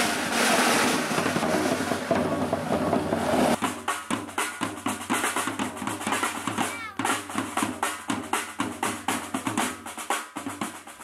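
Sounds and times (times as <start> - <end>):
snare drum roll and beats: 0.0 - 11.0.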